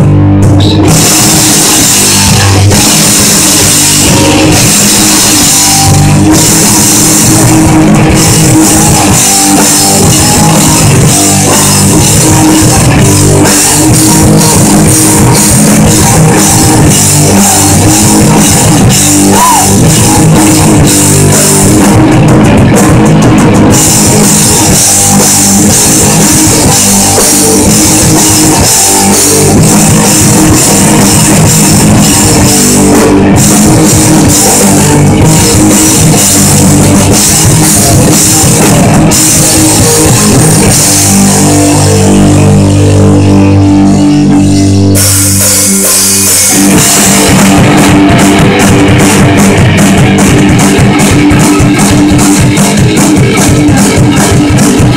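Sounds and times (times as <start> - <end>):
punk rock band playing: 0.0 - 54.9.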